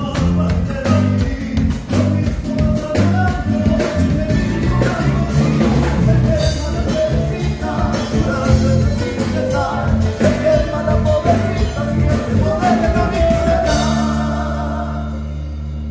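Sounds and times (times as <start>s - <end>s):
man singing into a microphone: 0.0s - 15.3s
acoustic guitar: 0.0s - 15.9s
bass guitar: 0.0s - 15.9s.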